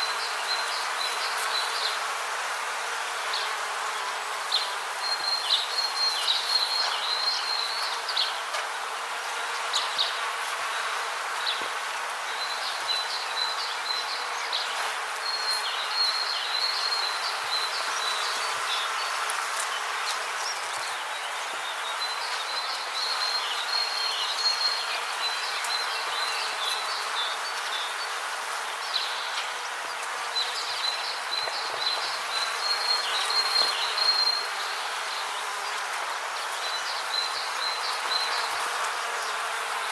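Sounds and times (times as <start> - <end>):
steady rainforest hiss: 0.0 - 39.9.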